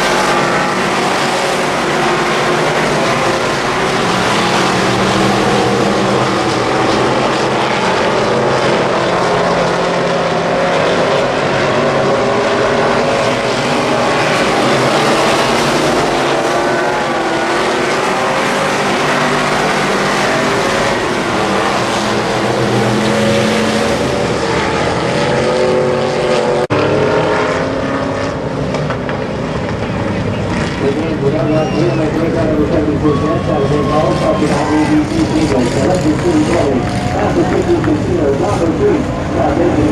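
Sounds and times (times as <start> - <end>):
race car engines racing: 0.0 - 39.9.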